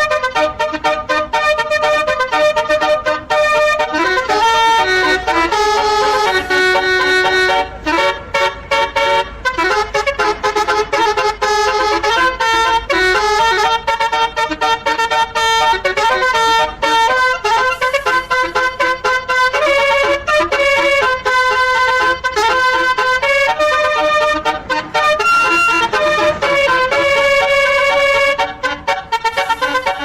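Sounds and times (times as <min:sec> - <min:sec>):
musical bus air horn melody: 0:00.0 - 0:30.0.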